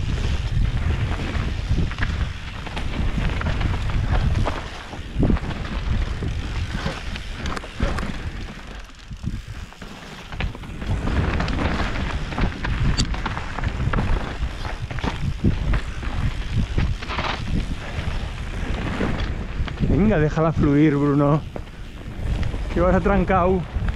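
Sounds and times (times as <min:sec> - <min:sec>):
bike rattling over bumps: 0:00.0 - 0:23.9
tyres on dirt and stones: 0:00.0 - 0:23.9
wind rushing over microphone: 0:00.0 - 0:23.9.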